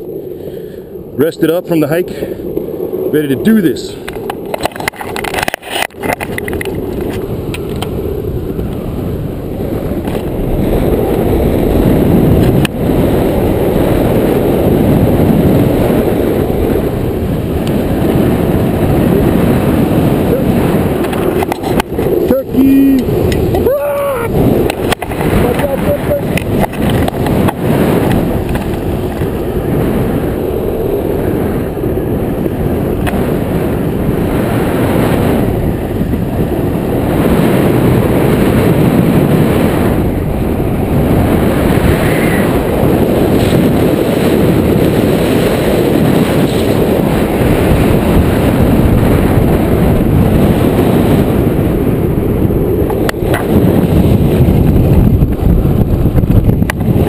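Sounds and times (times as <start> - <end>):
longboard wheels rolling on asphalt: 0.0 - 57.0.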